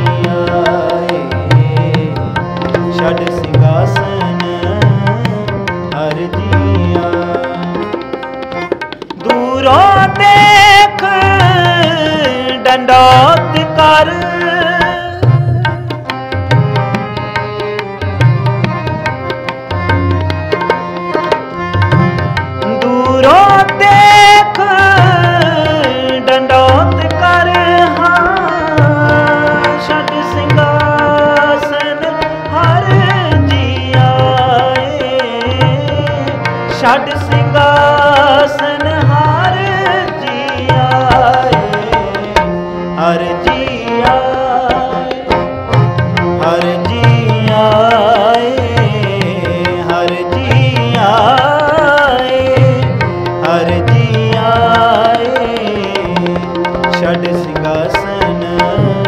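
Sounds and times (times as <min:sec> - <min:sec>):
person singing: 0:00.0 - 0:08.6, 0:09.2 - 0:17.2, 0:22.6 - 0:59.0
harmonium melody: 0:00.0 - 0:59.0
tabla drumming: 0:00.0 - 0:59.0.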